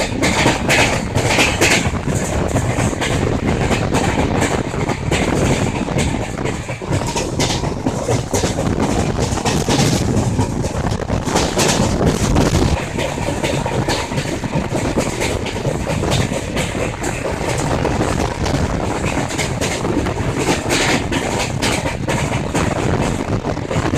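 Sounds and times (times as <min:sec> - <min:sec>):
train wheels rumbling on track: 0:00.0 - 0:23.9.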